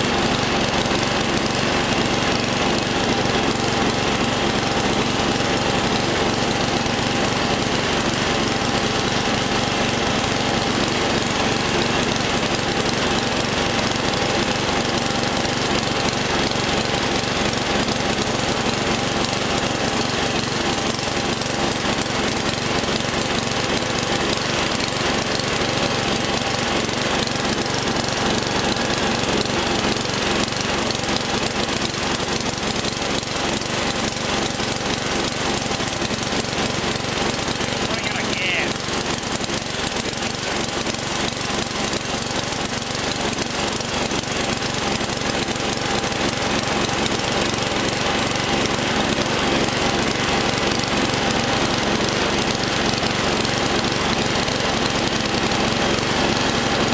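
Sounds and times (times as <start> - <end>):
lawn tractor engine running: 0.0 - 56.9.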